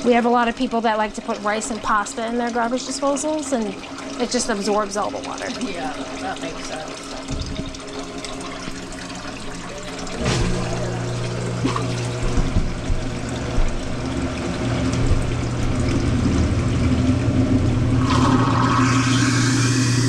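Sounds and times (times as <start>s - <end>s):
faucet water running: 0.0s - 20.0s
garbage disposal humming: 0.0s - 20.0s.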